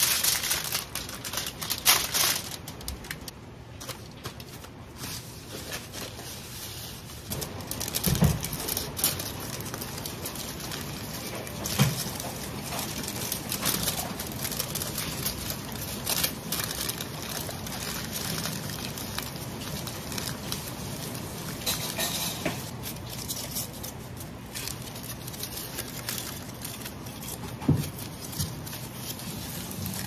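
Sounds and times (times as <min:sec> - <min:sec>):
plastic gloves crinkling: 0:00.0 - 0:30.0.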